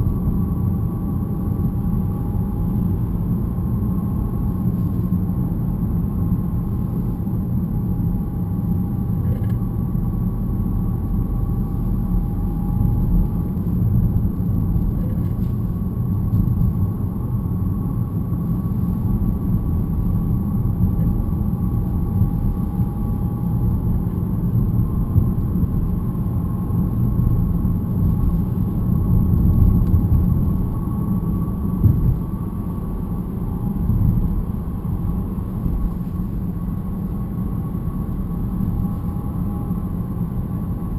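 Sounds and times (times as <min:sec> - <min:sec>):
road and drivetrain rumble: 0:00.0 - 0:40.9.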